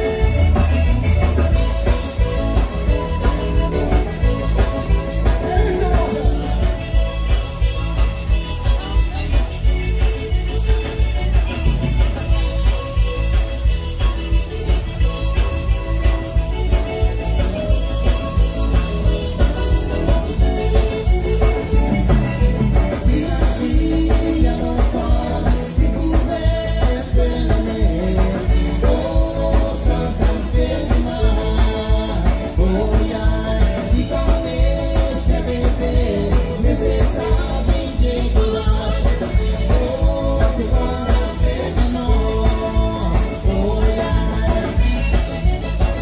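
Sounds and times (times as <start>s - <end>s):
accordion: 0.0s - 46.0s
live band playing: 0.0s - 46.0s.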